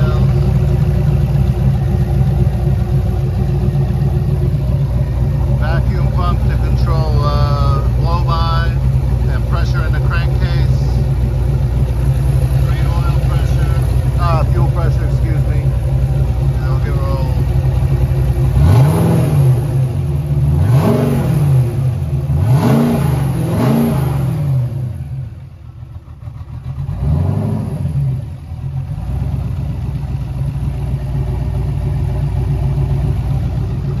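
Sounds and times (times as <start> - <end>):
engine revving: 0.0 - 30.4
engine idling: 0.0 - 34.0.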